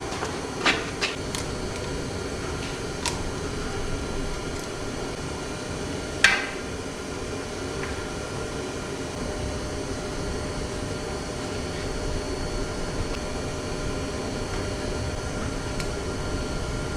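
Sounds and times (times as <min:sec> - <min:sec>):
mechanical hum: 0:00.0 - 0:16.9.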